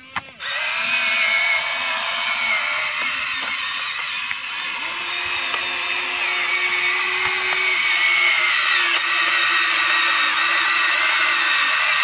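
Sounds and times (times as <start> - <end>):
toy gear motors whining: 0.0 - 12.0.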